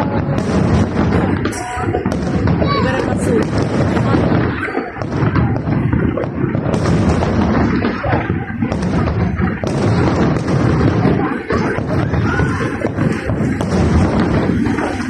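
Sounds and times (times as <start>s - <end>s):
fireworks barrage of bangs: 0.0s - 15.0s.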